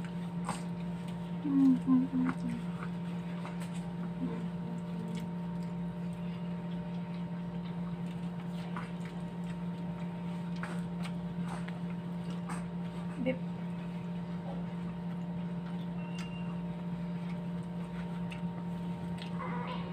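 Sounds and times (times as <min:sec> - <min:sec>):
eating clicks and smacks: 0:00.0 - 0:12.9, 0:14.7 - 0:19.4.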